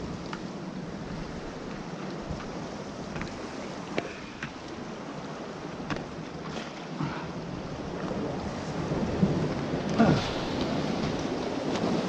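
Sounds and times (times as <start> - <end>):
surf: 0.0 - 12.0
wind: 0.0 - 12.0.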